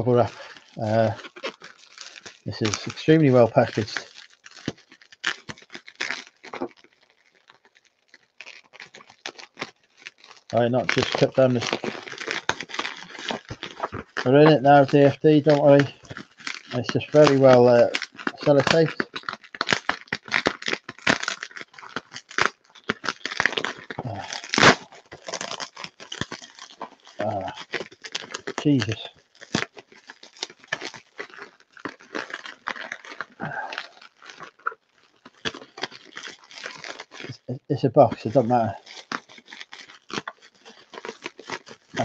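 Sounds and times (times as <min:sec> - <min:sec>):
bubble wrap crinkling: 0:00.0 - 0:42.0
bubble wrap crunch: 0:00.0 - 0:42.0.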